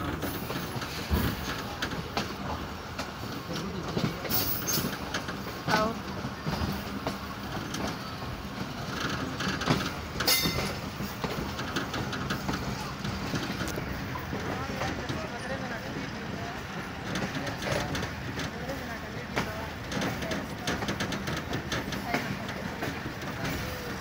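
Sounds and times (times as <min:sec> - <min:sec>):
train rumbling on track: 0:00.0 - 0:24.0
wheels clicking on rails: 0:00.0 - 0:24.0.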